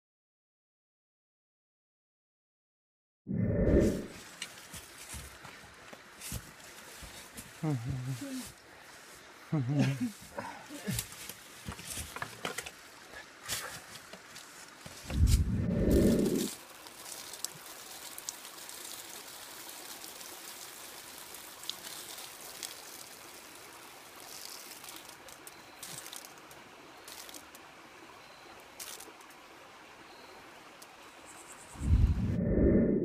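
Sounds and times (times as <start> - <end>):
stream water trickling: 4.1 - 15.2, 15.8 - 32.1.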